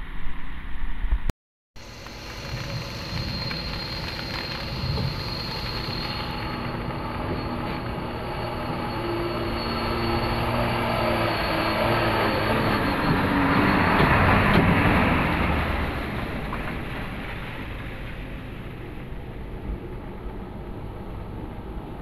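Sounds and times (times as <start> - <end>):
truck engine driving: 1.8 - 22.0.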